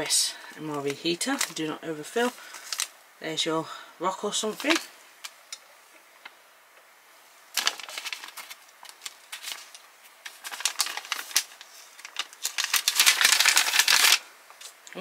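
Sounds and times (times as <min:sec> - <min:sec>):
plastic sleeve crinkling: 0:00.0 - 0:03.0, 0:04.4 - 0:06.4, 0:07.5 - 0:15.0.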